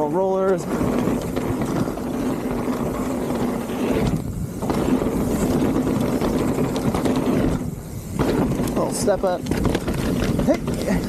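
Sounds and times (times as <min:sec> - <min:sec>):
bike rattling: 0:00.0 - 0:11.0
tyres rumbling on dirt: 0:00.0 - 0:11.0
wind noise: 0:00.0 - 0:11.0.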